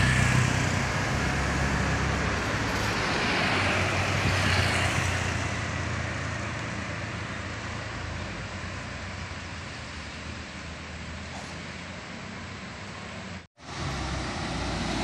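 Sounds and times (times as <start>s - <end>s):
bus driving past: 0.0s - 15.0s.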